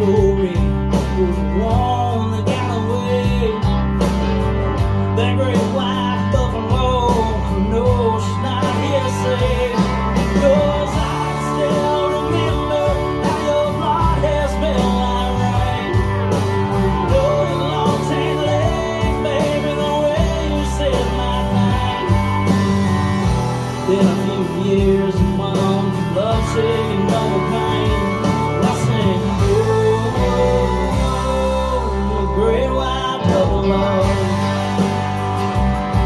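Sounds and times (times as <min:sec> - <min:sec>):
song with guitar and singing: 0:00.0 - 0:36.0
steady bass: 0:00.0 - 0:36.0.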